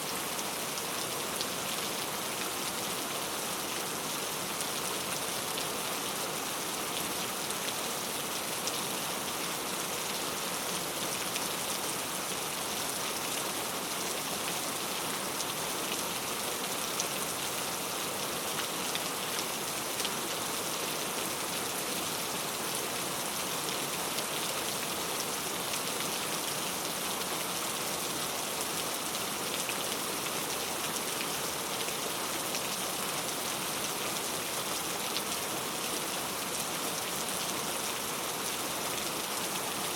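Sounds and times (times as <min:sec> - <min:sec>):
heavy rain on tree leaves: 0:00.0 - 0:39.9.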